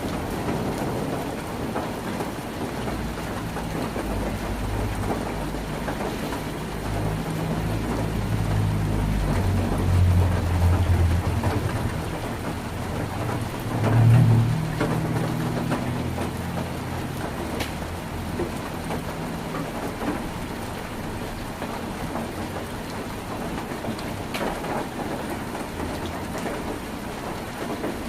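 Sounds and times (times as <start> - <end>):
heavy rain on a tin roof: 0.0 - 28.0.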